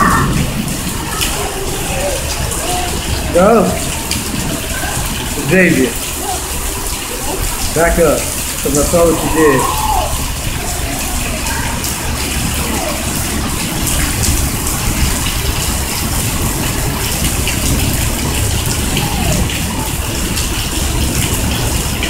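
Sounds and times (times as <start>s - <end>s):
rain pouring: 0.0s - 22.0s.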